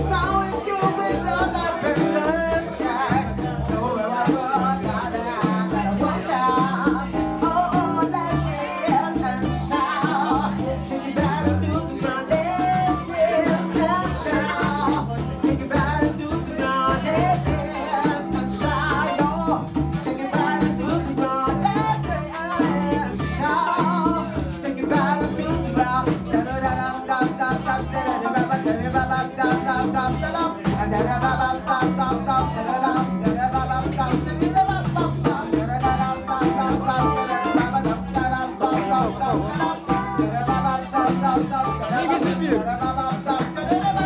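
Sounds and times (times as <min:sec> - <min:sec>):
live band playing: 0:00.0 - 0:44.0
person singing: 0:00.0 - 0:44.0.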